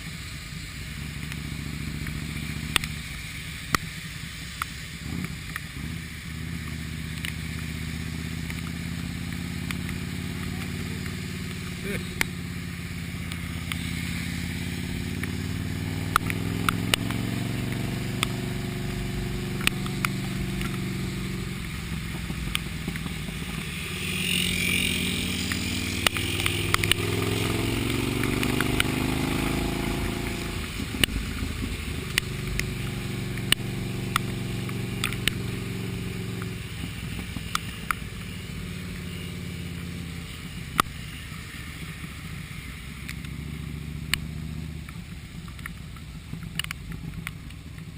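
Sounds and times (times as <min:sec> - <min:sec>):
motorcycle engine running: 0:00.0 - 0:47.9
road noise: 0:00.0 - 0:47.9.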